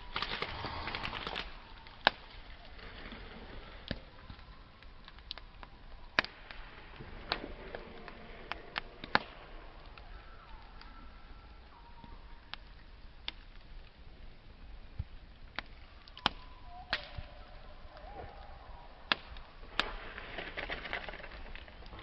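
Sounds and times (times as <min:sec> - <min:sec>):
burning wood popping: 0:00.0 - 0:22.0
campfire crackling: 0:00.0 - 0:22.0.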